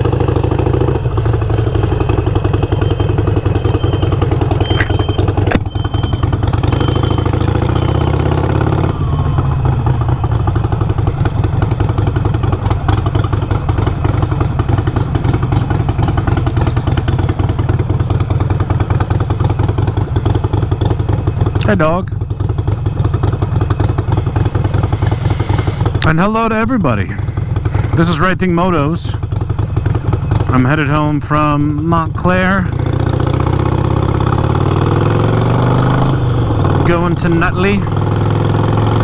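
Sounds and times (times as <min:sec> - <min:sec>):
motorcycle engine running at low speed: 0:00.0 - 0:39.0.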